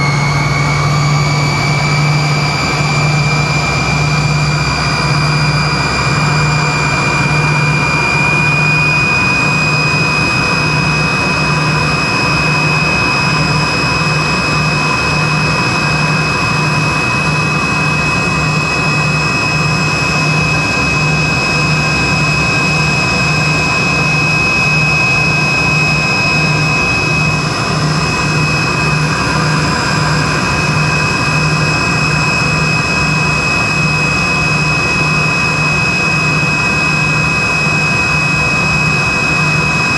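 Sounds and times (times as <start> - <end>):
throbbing low hum: 0.0 - 39.3
aircraft cabin rush: 0.0 - 39.9
high jet engine whine: 0.0 - 39.9.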